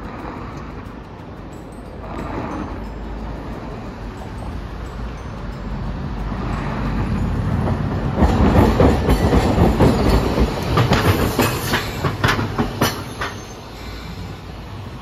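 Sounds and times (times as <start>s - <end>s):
sharp wheel clacks: 0.0s - 13.7s
tram wheels rumbling: 0.0s - 15.0s.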